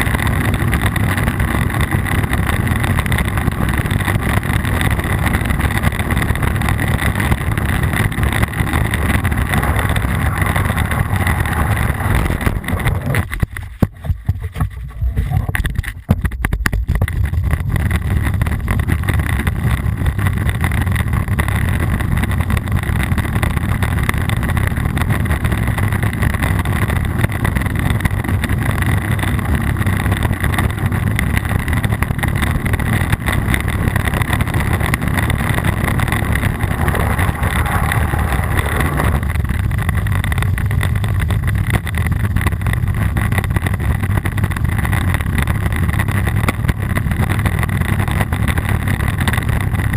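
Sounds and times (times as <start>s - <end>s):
wind buffeting microphone: 0.0s - 16.2s, 16.9s - 49.9s.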